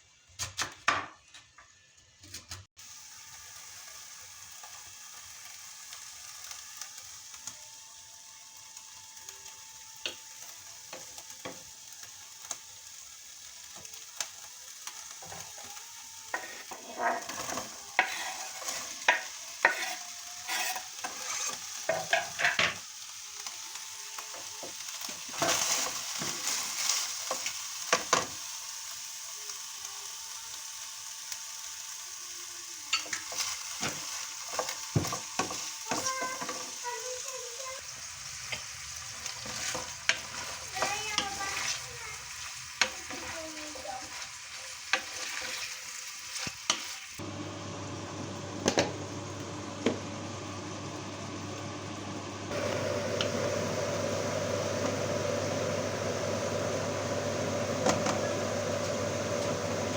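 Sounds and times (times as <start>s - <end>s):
food sizzling in a pan: 1.2s - 59.9s.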